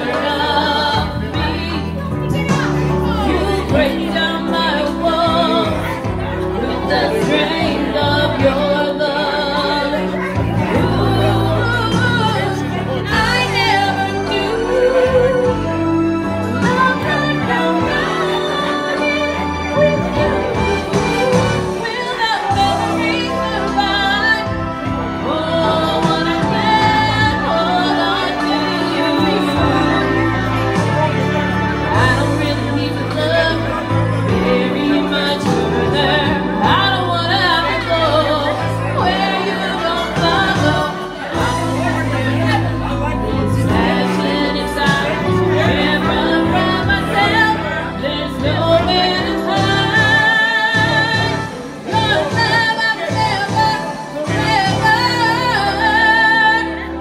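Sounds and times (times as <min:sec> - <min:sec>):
instrumental backing music: 0:00.0 - 0:57.0
woman singing into microphone: 0:00.0 - 0:57.0.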